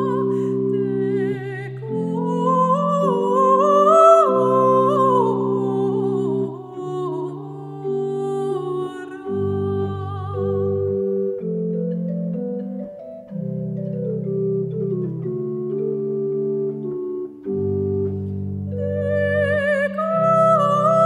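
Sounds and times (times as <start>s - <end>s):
chamber organ playing chords: 0.0s - 21.0s.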